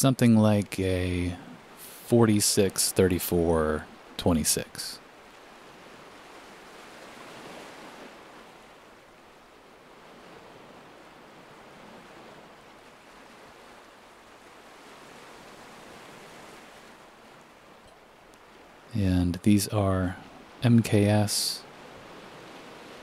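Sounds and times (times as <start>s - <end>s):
faint ocean waves: 0.0s - 23.0s.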